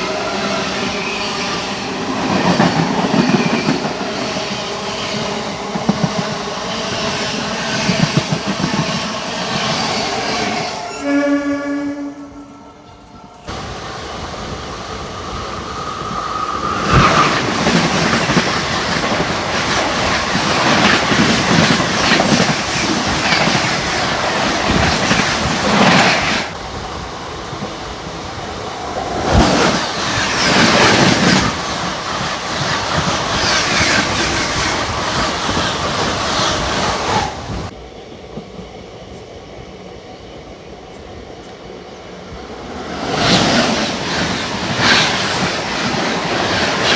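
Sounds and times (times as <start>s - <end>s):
train wheels rumbling and clacking: 0.0s - 11.0s, 13.3s - 38.8s, 42.3s - 46.9s.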